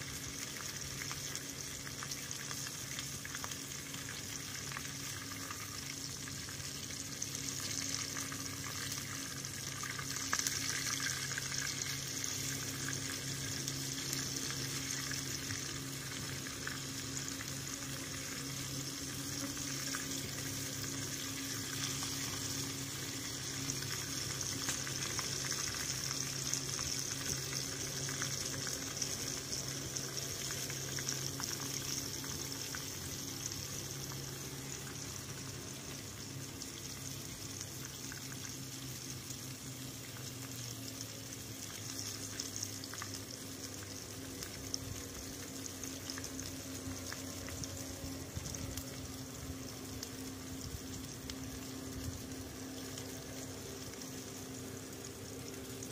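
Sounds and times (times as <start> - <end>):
food sizzling in a pot: 0.0 - 55.9
low hum: 0.0 - 55.9.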